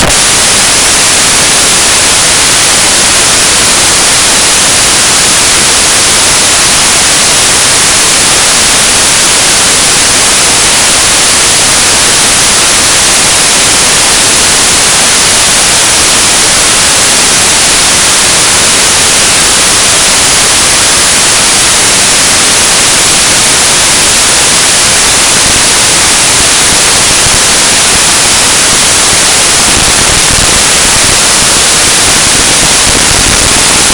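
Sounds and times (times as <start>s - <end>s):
static hiss: 0.0s - 33.9s.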